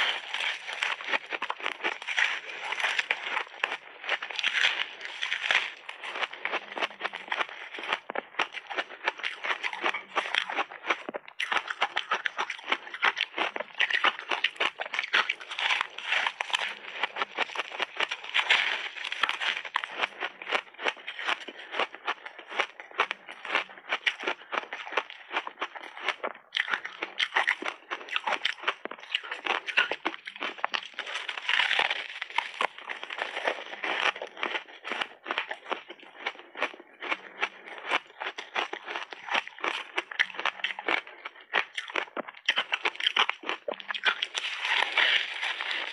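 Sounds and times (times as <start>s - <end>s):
ice cake crunching when chewed: 0.0s - 45.9s.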